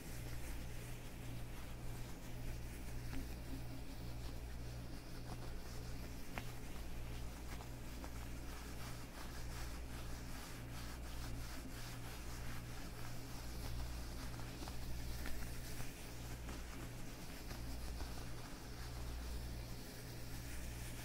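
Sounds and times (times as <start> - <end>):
leather gloves rubbing: 0.0 - 21.0.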